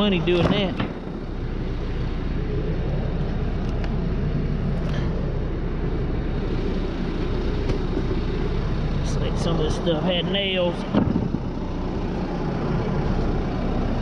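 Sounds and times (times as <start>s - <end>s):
sawmill engine running: 0.0s - 14.0s.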